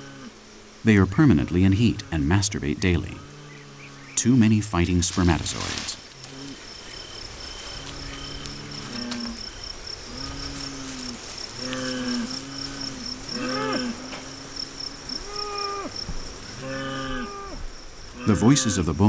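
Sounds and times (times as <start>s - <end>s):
bulls lowing: 0.0s - 0.4s, 1.5s - 19.0s
crickets chirping: 0.0s - 19.0s.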